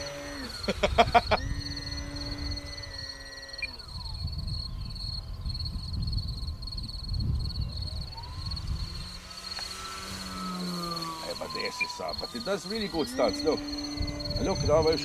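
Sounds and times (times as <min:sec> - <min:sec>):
high insect trill: 0:00.0 - 0:15.0
propeller motor whine: 0:00.0 - 0:15.0
wind rumble on microphone: 0:00.0 - 0:15.0.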